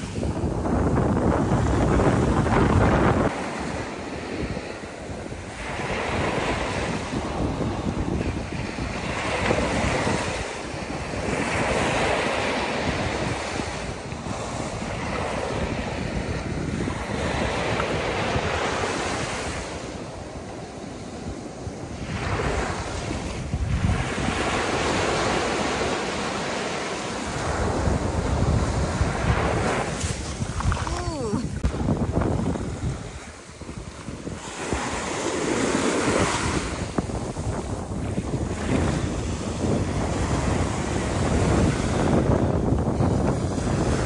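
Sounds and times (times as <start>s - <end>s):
ocean waves on beach: 0.0s - 44.0s
wind buffeting microphone: 0.0s - 44.0s.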